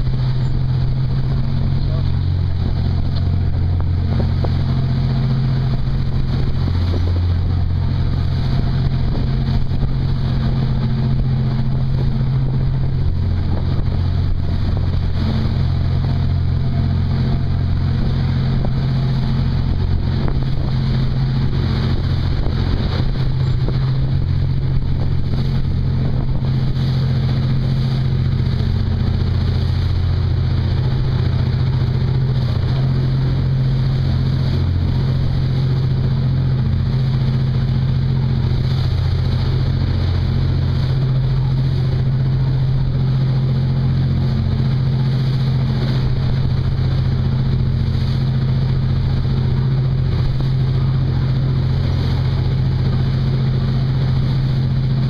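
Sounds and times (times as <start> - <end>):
boat engine droning: 0.0 - 55.0
water rushing along hull: 0.0 - 55.0
wind on microphone: 0.0 - 55.0.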